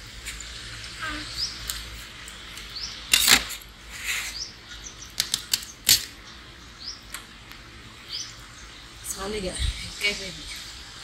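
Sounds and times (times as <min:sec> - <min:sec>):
small birds chirping: 0:00.3 - 0:03.3, 0:03.9 - 0:10.8.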